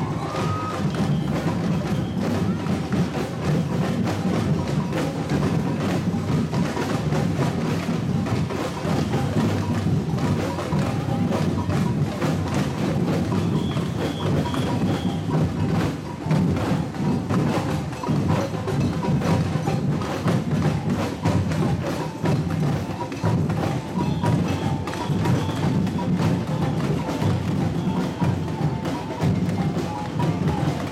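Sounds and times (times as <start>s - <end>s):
sharp clacking percussion strikes: 0.0s - 30.9s.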